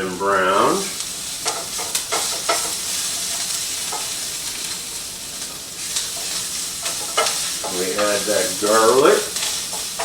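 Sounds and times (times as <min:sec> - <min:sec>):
vegetables sizzling in a pan: 0:00.0 - 0:10.0
spatula scraping a pan: 0:00.7 - 0:04.8, 0:05.4 - 0:10.0.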